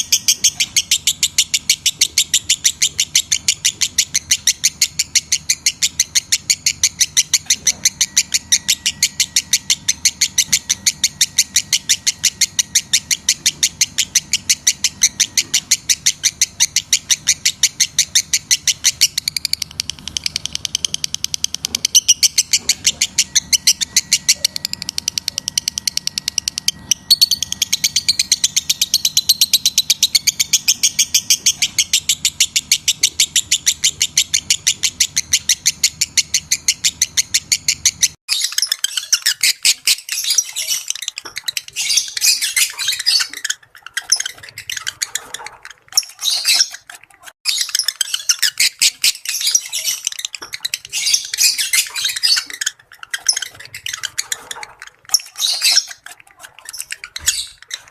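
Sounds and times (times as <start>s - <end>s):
lovebirds chirping and chattering: 0.0s - 57.9s.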